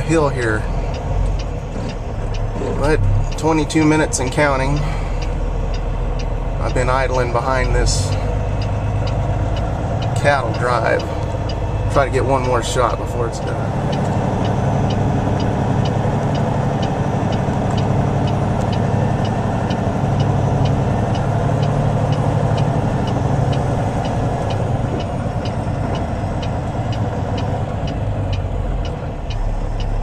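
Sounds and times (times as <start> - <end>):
diesel truck engine idling: 0.0 - 30.0
faint regular ticking: 0.0 - 30.0.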